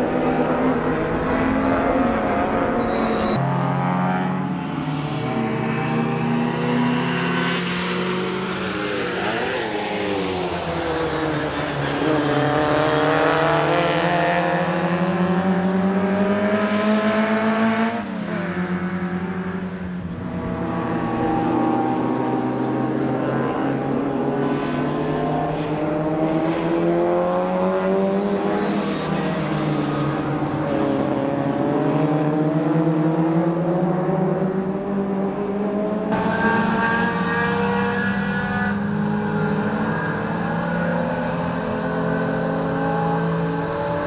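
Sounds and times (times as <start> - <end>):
racing car engine at full throttle: 0.0 - 44.0.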